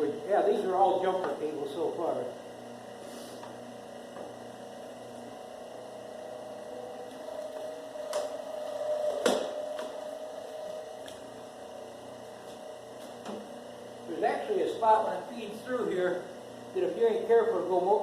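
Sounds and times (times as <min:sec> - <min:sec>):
machine motor humming: 0:00.0 - 0:18.0.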